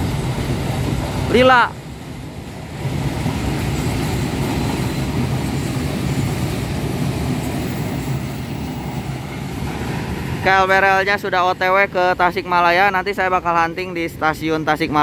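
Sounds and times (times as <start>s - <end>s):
train wagons rolling on track: 0.0s - 15.0s.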